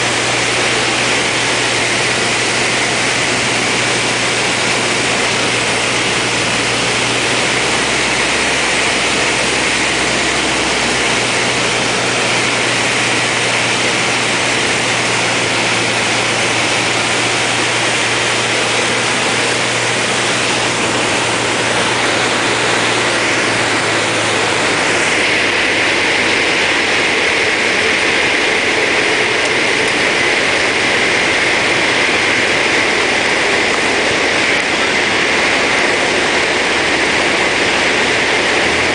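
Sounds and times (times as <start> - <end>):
cockpit rushing hiss: 0.0 - 38.9
propeller plane engine droning: 0.0 - 38.9.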